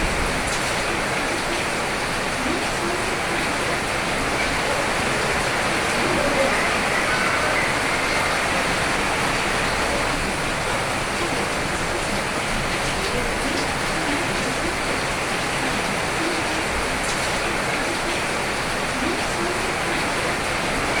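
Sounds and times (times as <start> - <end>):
rain falling steadily: 0.0 - 21.0.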